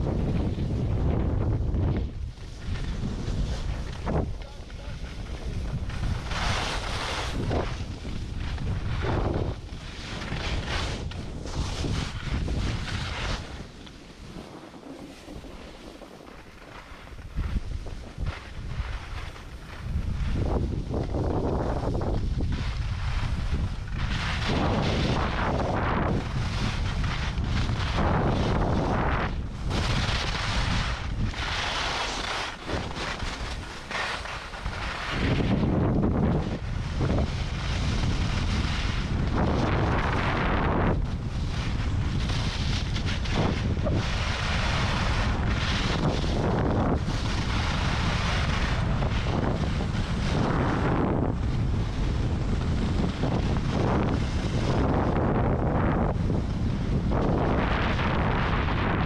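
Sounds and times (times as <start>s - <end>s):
skis scraping on packed snow: 0.0s - 59.0s
wind buffeting microphone: 0.0s - 59.0s.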